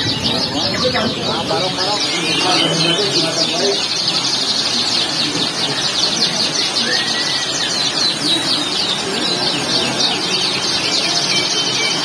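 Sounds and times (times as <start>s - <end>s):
canaries trilling: 0.0s - 12.0s.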